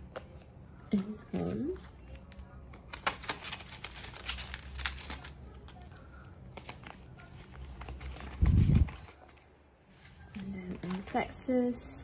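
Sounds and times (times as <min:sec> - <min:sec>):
paper and plastic rustling: 0:01.0 - 0:11.8.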